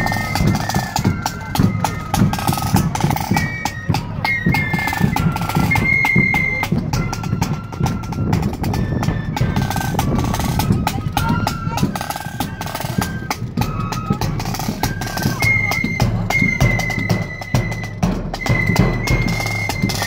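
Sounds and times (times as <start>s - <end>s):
high flute notes: 0.0s - 20.0s
side drums march rhythm: 0.0s - 20.0s.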